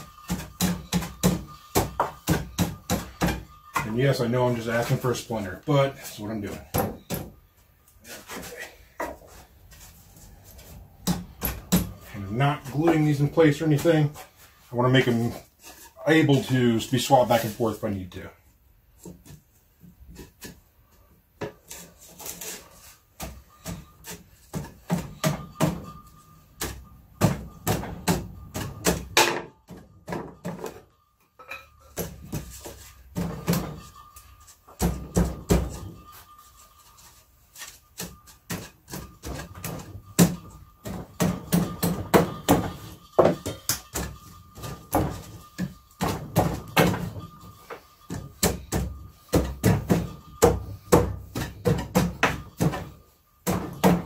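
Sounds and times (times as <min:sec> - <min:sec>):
wood-on-wood knocks and scrapes: 0:00.0 - 0:18.3, 0:19.0 - 0:54.0.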